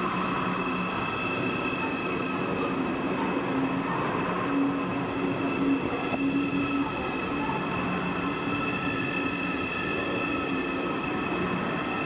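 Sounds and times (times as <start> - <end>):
high-pitched train whine: 0.0 - 12.0
train rolling rumble: 0.0 - 12.0.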